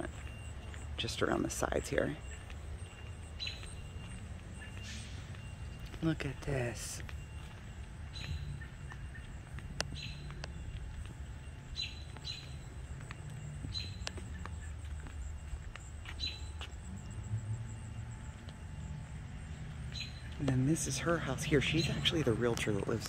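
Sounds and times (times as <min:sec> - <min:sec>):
low outdoor rumble: 0:00.0 - 0:23.0
small birds chirping: 0:00.0 - 0:23.0.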